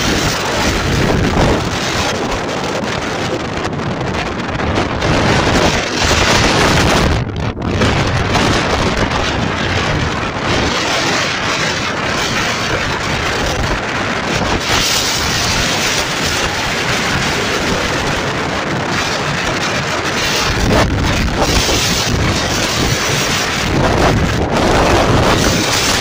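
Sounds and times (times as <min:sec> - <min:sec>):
waves breaking on shore: 0:00.0 - 0:26.0
wind buffeting microphone: 0:00.0 - 0:26.0.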